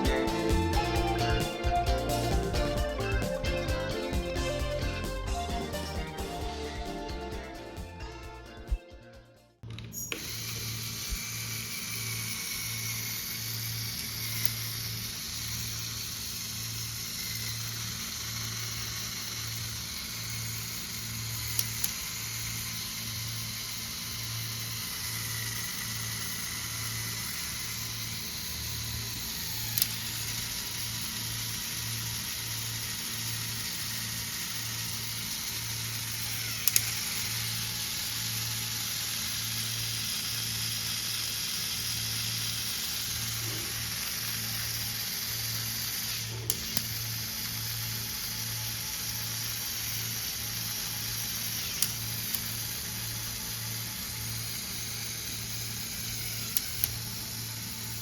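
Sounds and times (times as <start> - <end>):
small electric motor whining: 9.9 - 58.0.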